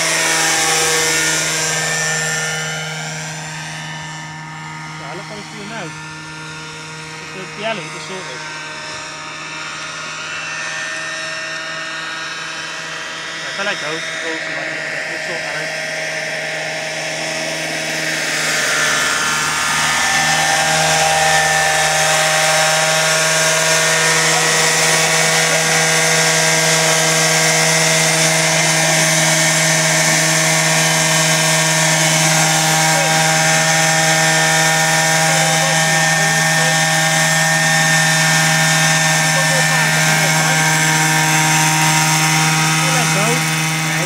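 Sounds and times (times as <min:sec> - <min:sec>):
model helicopter whine and rotor drone: 0:00.0 - 0:44.0.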